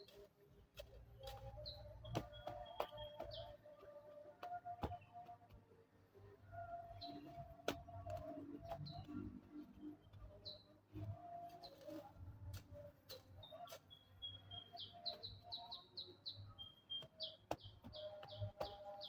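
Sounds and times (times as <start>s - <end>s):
small birds chirping: 0.0s - 5.4s, 6.6s - 12.0s, 12.8s - 19.0s.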